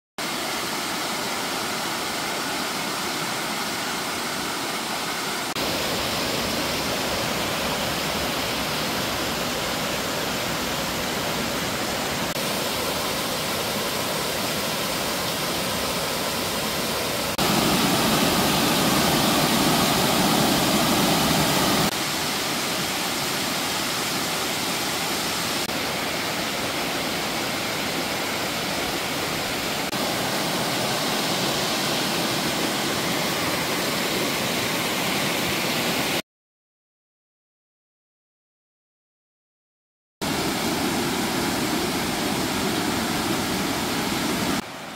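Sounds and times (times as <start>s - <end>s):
stream rushing over rocks: 0.2s - 36.2s, 40.2s - 44.9s.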